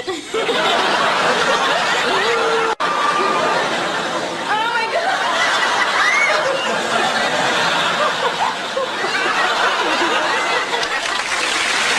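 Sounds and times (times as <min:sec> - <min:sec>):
people laughing softly: 0:00.0 - 0:11.6.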